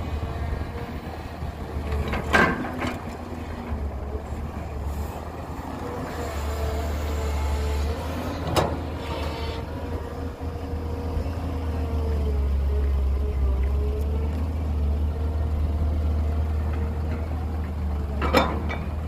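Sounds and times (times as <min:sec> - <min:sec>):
heavy diesel machinery rumbling: 0:00.0 - 0:19.0.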